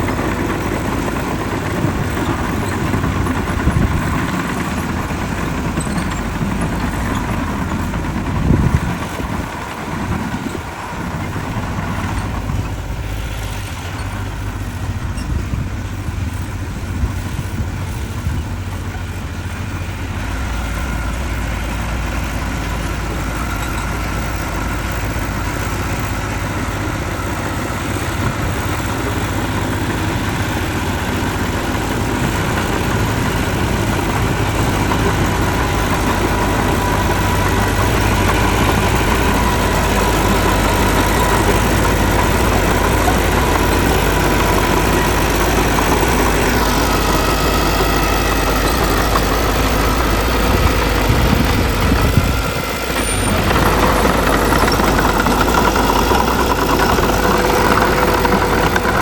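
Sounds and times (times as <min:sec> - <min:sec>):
deep low drone: 0:00.0 - 0:59.0
diesel engines running: 0:00.0 - 0:59.0.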